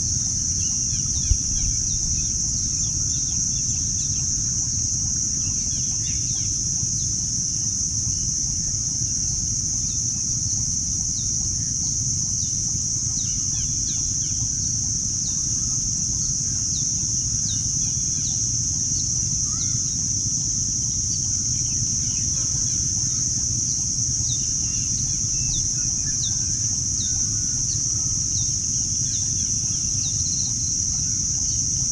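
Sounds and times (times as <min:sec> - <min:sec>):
steady high-pitched hum: 0:00.0 - 0:31.9.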